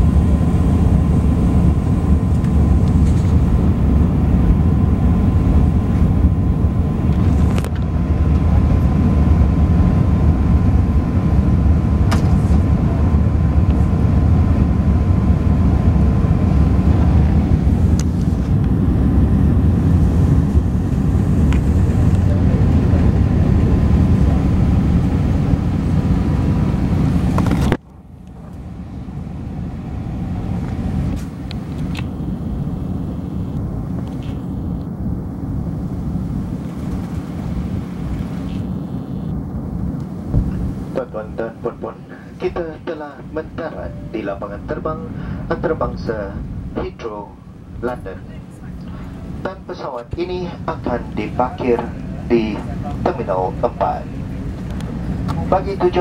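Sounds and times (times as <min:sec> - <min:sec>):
aircraft cabin rumble: 0:00.0 - 0:56.0
thin whine: 0:00.0 - 0:56.0.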